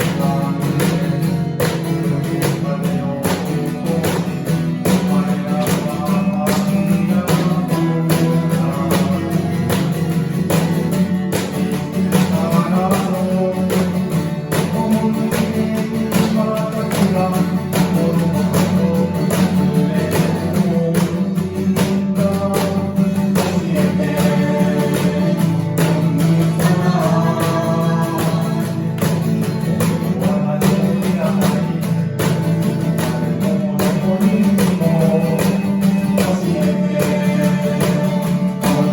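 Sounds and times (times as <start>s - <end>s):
band music with acoustic guitar: 0.0s - 38.9s.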